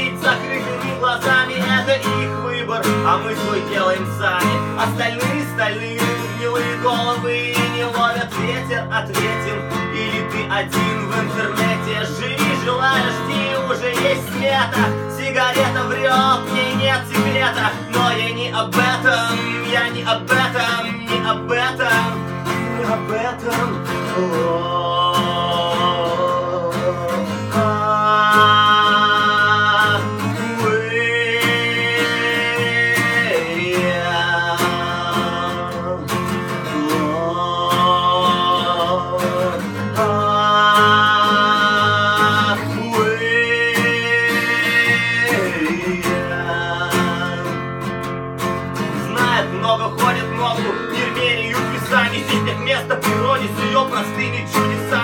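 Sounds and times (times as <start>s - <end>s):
acoustic guitar strummed: 0.0s - 55.0s
man singing: 0.0s - 55.0s.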